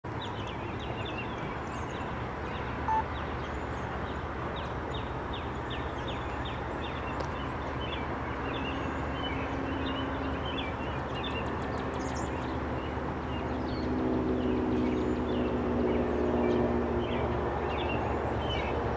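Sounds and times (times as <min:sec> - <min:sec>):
faint multi-tone hum: 0:00.1 - 0:18.9
songbirds chirping: 0:00.1 - 0:18.9.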